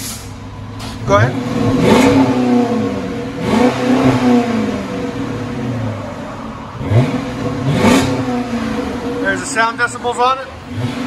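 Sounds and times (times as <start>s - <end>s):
car engine revving: 0.8s - 11.0s.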